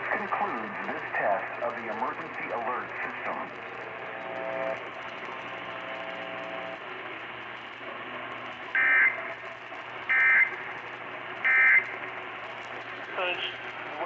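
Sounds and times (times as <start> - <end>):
radio hiss and static: 0.0 - 14.0
warbling data tones: 0.1 - 6.8, 8.7 - 10.8, 11.4 - 14.0.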